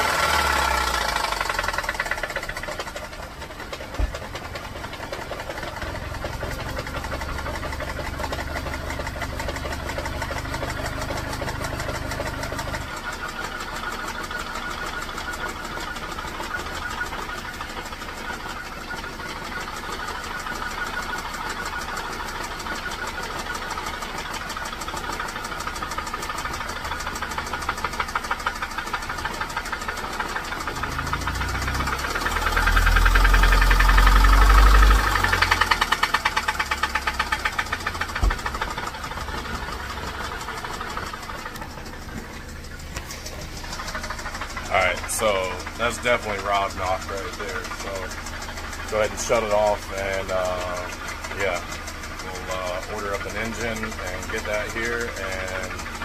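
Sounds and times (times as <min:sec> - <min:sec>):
engine running with rod knock: 0:00.0 - 0:56.0.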